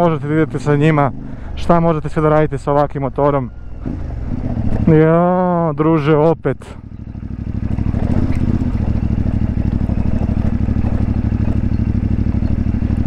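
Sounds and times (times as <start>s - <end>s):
motorcycle engine pulling: 0.0s - 13.0s.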